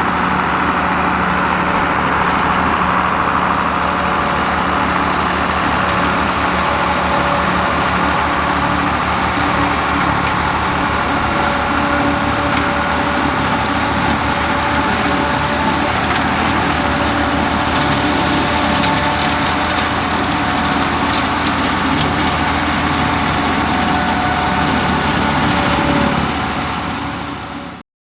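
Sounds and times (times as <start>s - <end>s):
tractor engine running: 0.0s - 27.8s.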